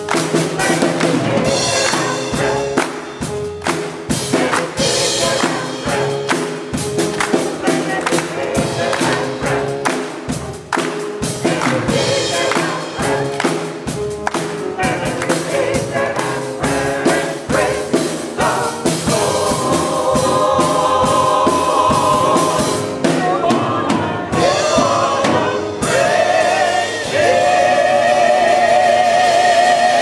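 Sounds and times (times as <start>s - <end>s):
drums keeping a steady beat: 0.0s - 30.0s
choir singing: 0.2s - 3.3s, 4.0s - 10.2s, 11.3s - 13.8s, 14.8s - 30.0s.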